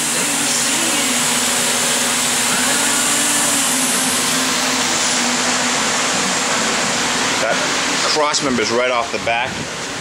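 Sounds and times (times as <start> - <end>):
machine whirring: 0.0 - 10.0.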